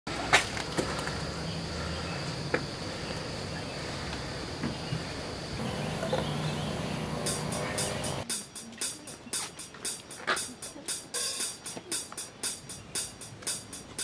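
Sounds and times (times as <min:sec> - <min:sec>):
night insects chirring: 0:00.1 - 0:14.0.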